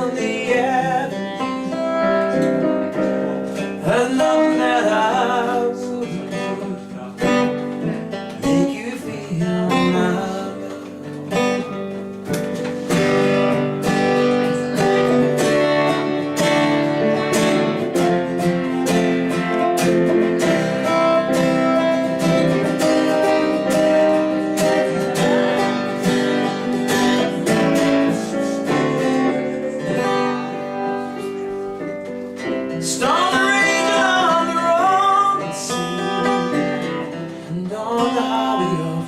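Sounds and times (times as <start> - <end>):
acoustic guitar strumming chords: 0.0 - 39.0.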